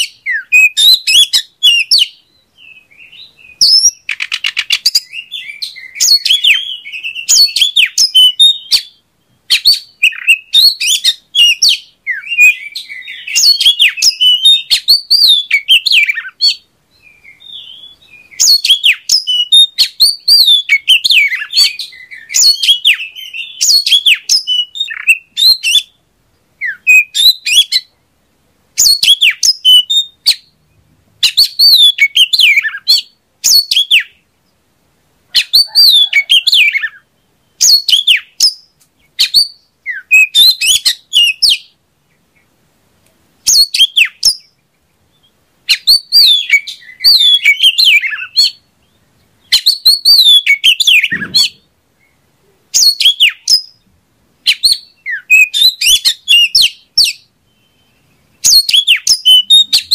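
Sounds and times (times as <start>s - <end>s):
bird singing: 0.0s - 28.0s, 28.8s - 34.6s, 35.3s - 42.6s, 43.4s - 59.9s.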